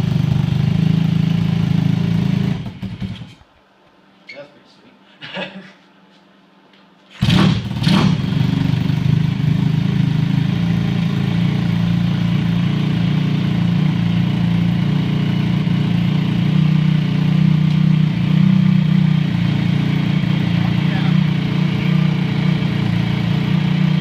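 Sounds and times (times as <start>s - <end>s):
minibike engine revving and idling: 0.0s - 3.4s, 7.2s - 24.0s.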